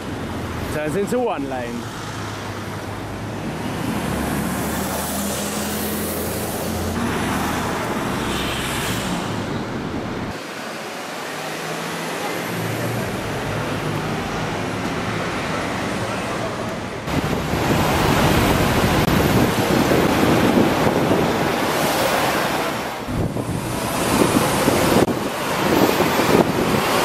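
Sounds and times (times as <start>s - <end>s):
cars passing: 0.0s - 27.0s
bus engine passing: 1.6s - 27.0s.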